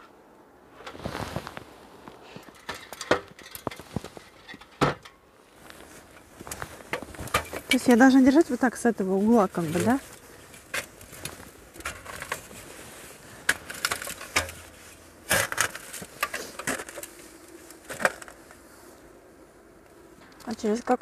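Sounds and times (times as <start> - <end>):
handling crunches and knocks: 0.8 - 18.7.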